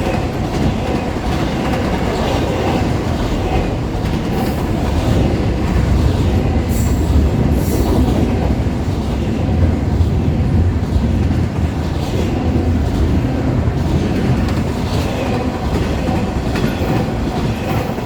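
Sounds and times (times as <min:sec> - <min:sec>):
freight train rumbling past: 0:00.0 - 0:18.0
wheel clatter on rails: 0:00.0 - 0:18.0.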